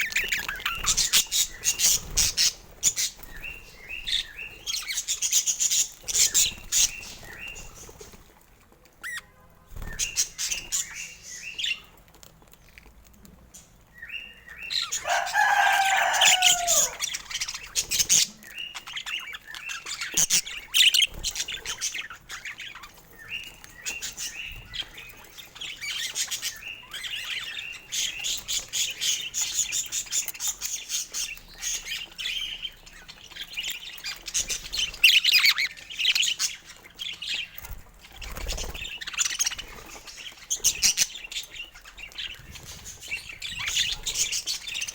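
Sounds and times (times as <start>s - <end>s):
budgerigars chirping and chattering: 0.0s - 44.9s.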